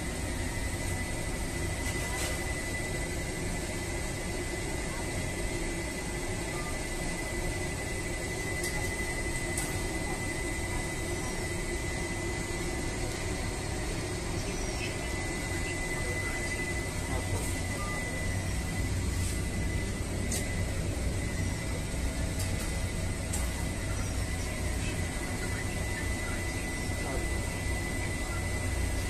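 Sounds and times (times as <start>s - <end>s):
oven blower whirring: 0.0s - 29.0s
thin high whine: 0.0s - 29.0s.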